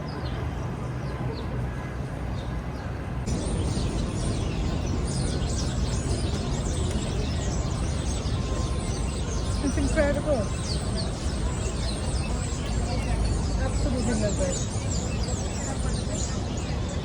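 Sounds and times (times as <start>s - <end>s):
low traffic rumble: 0.0s - 17.0s
small birds chirping: 3.3s - 17.0s.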